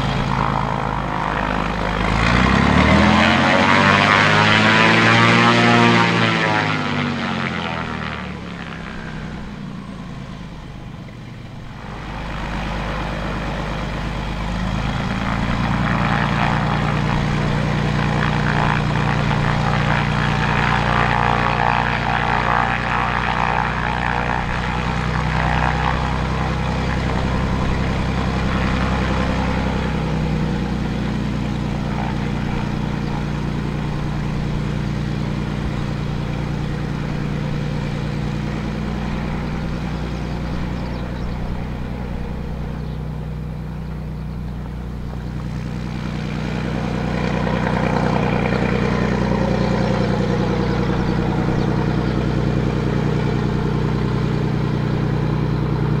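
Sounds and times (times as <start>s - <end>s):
aircraft engine and propeller humming: 0.0s - 56.0s.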